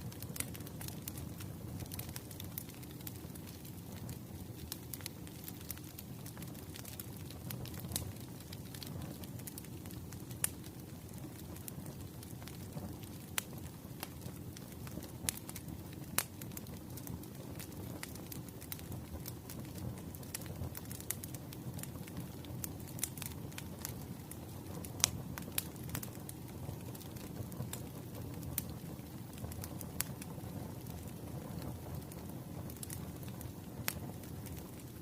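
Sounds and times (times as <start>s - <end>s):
firewood crackling and popping: 0.0s - 35.0s
low rumble of flames: 0.0s - 35.0s.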